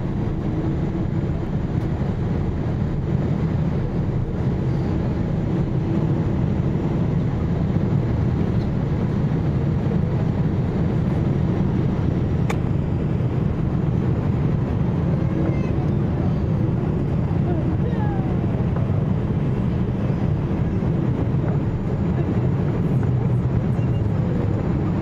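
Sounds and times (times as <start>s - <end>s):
airliner engine rumble: 0.0s - 25.0s.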